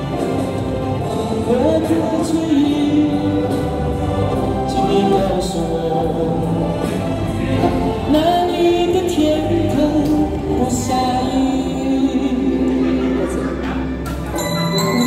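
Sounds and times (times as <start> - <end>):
person singing into a microphone: 0.0 - 13.9
pop backing track: 0.0 - 15.0.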